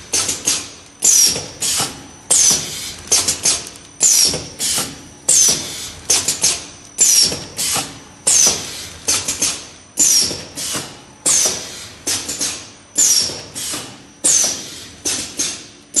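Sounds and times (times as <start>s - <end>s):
mechanical clacks: 0.0s - 16.0s.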